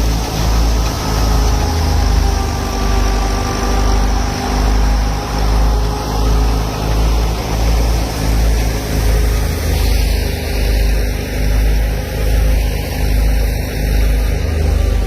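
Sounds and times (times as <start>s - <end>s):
tractor engine throbbing: 0.0s - 15.0s.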